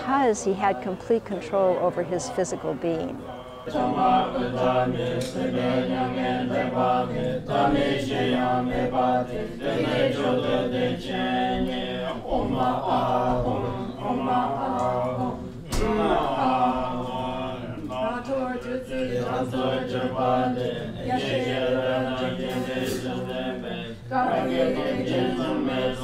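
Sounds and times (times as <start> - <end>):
group chanting in low voices: 0.0 - 26.0.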